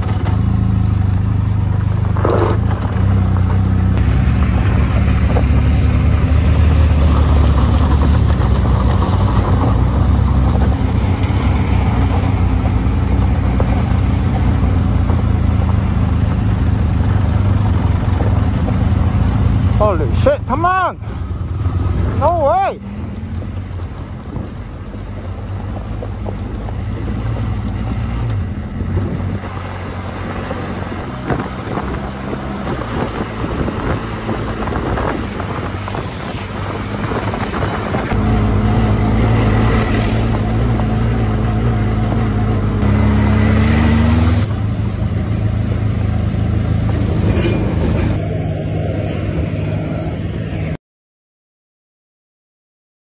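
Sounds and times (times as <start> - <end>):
motorcycle engine running: 0.0 - 47.1.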